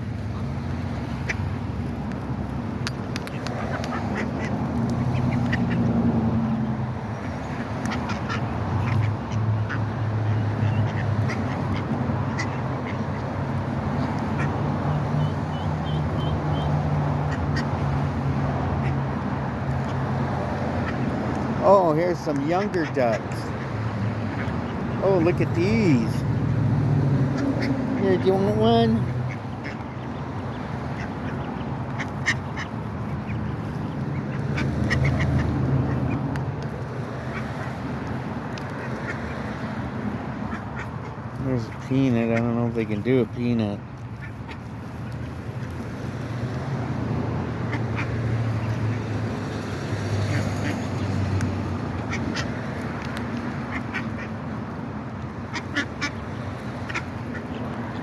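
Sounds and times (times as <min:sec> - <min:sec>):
ducks quacking: 0:03.2 - 0:26.4, 0:27.2 - 0:36.3, 0:37.2 - 0:39.6, 0:40.3 - 0:45.7, 0:47.5 - 0:58.0.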